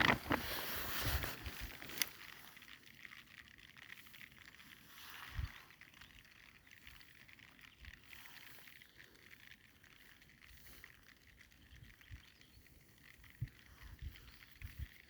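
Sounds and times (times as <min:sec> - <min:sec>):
faint rain pattering: 0:00.0 - 0:15.0.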